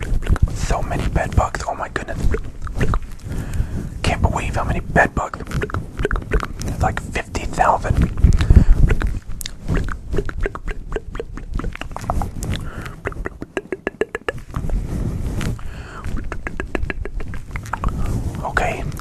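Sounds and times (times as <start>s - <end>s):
hands rustling near microphone: 0.0s - 19.0s.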